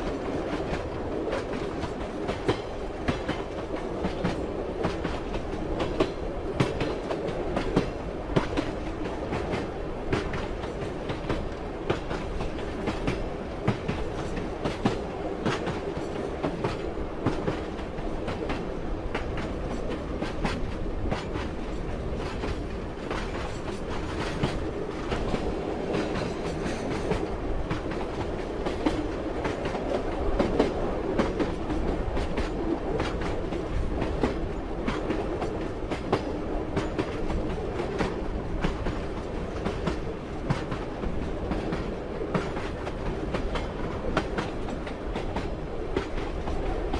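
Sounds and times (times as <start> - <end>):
train carriage rumbling: 0.0 - 46.9.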